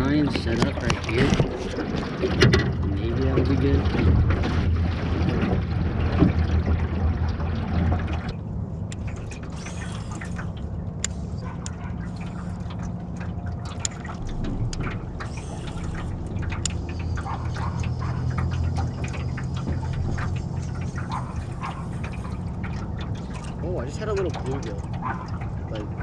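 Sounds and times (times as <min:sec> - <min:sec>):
boat motor humming: 0:00.0 - 0:26.0
light clicks and splashes: 0:00.0 - 0:26.0
water lapping against boat: 0:00.0 - 0:26.0.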